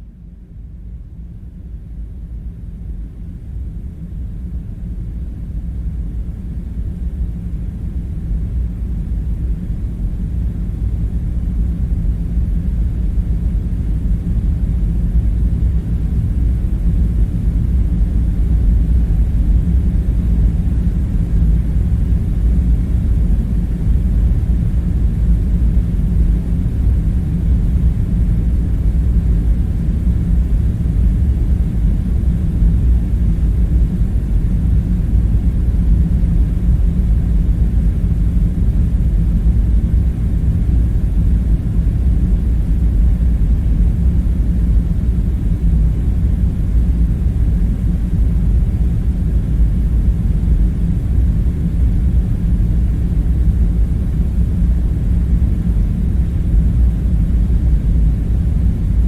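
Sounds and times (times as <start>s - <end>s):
low rumble with deep hum: 0.0s - 59.0s.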